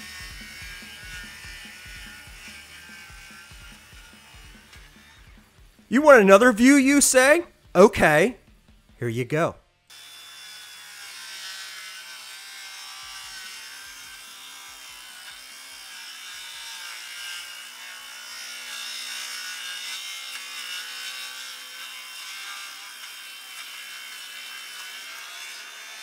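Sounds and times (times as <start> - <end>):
circular saw cutting wood: 0.0 - 7.4, 9.9 - 26.0.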